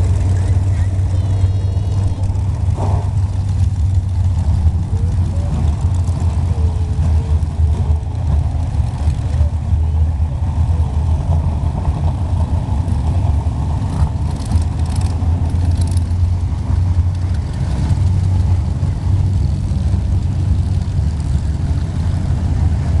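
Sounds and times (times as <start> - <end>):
stock car engines rumbling: 0.0 - 23.0.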